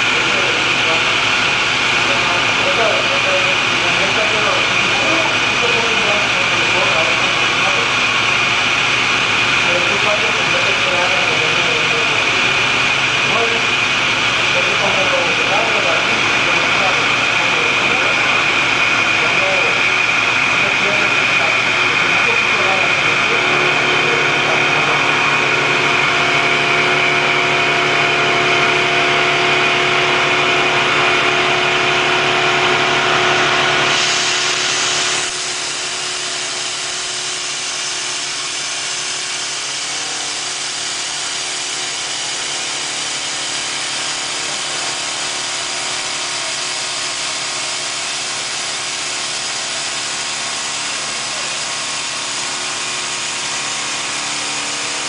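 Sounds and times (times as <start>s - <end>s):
milling machine whine: 0.0s - 55.0s.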